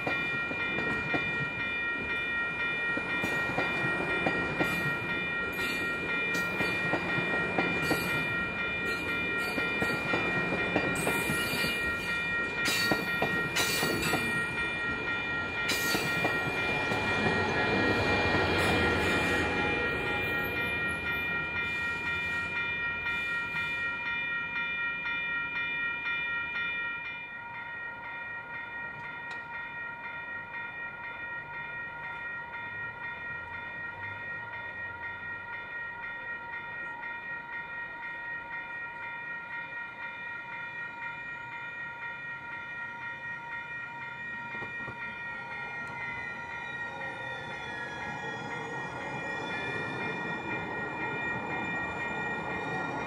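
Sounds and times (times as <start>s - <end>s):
crossing bells ringing: 0.0s - 53.0s.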